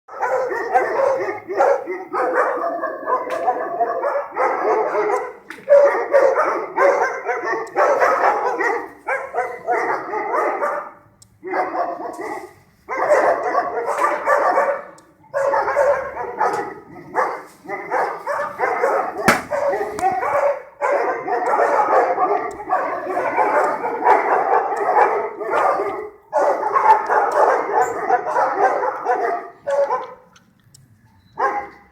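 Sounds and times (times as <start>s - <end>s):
pack of dogs barking: 0.1s - 31.9s.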